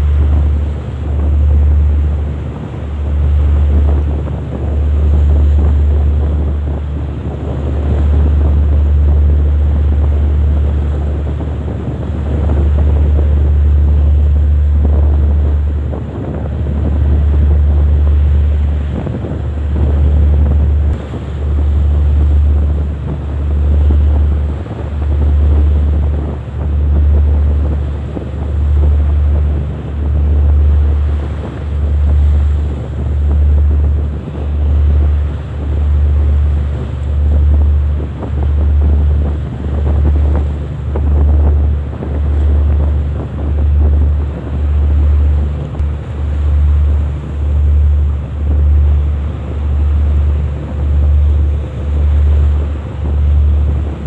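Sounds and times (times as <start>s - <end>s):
sea noise: 0.0s - 54.0s
throbbing low rumble: 0.0s - 54.0s
wind: 0.0s - 54.0s.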